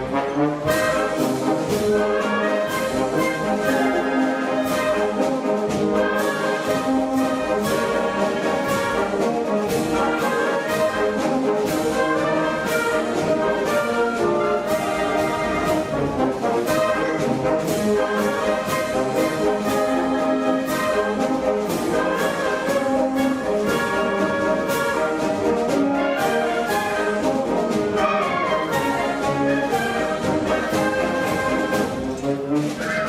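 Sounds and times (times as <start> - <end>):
brass-led orchestral music: 0.0 - 33.0.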